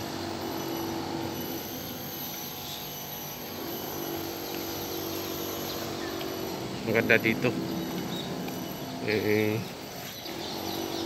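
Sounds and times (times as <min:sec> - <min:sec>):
constant high-pitched tone: 0:00.0 - 0:11.0
low drone: 0:00.0 - 0:11.0.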